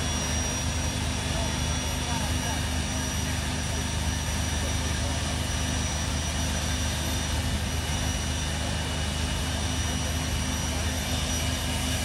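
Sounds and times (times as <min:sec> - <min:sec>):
gas turbine engine whining: 0:00.0 - 0:12.0.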